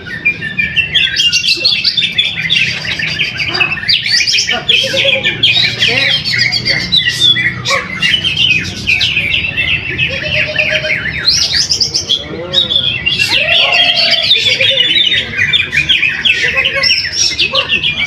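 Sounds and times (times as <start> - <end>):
bird singing chirps and trills: 0.0 - 18.0.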